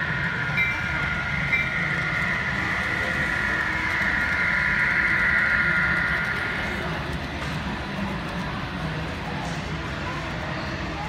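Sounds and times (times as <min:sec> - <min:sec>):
model train humming: 0:00.0 - 0:10.6
exhibition hall din: 0:00.0 - 0:11.0.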